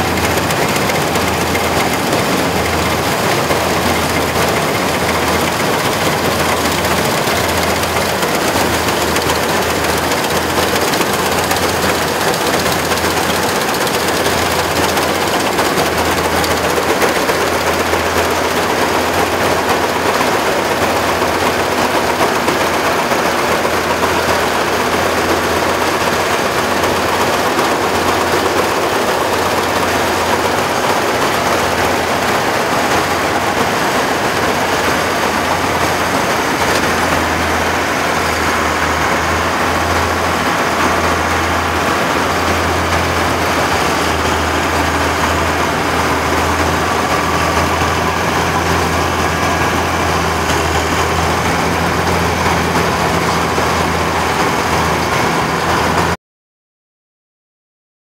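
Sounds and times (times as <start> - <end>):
combine harvester running: 0.0 - 56.2.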